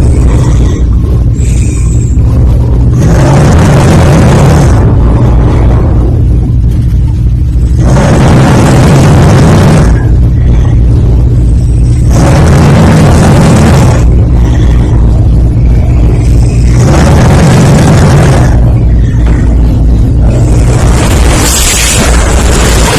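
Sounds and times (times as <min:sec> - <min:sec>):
person snoring loudly: 0:00.0 - 0:06.0, 0:07.8 - 0:11.1, 0:11.8 - 0:22.9
low rumble: 0:00.0 - 0:22.9.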